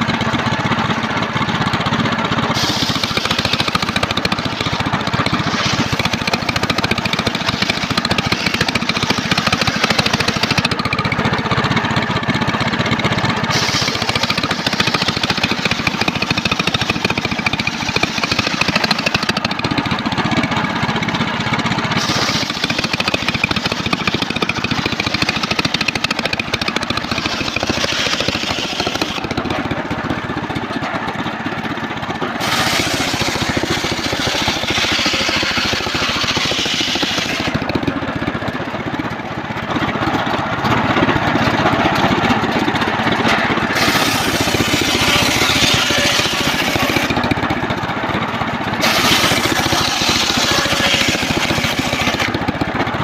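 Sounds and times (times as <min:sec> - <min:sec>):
engine-driven circular sawmill sawing: 0:00.0 - 0:53.0.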